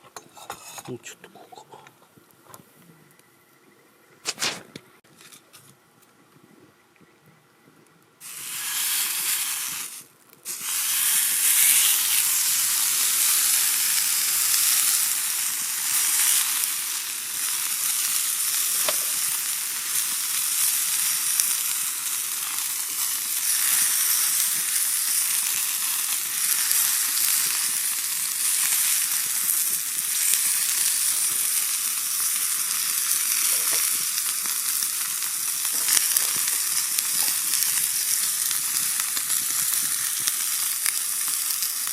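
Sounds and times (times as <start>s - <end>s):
steak sizzling on griddle: 8.2s - 41.9s.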